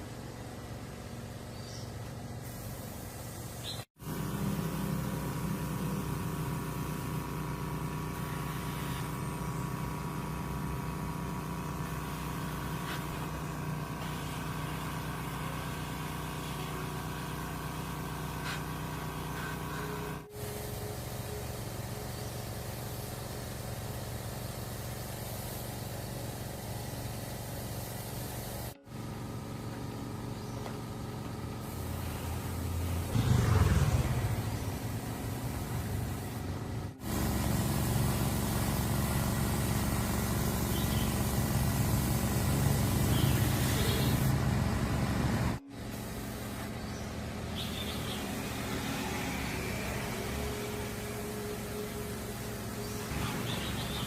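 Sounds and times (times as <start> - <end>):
air compressor motor humming: 0.0 - 54.0.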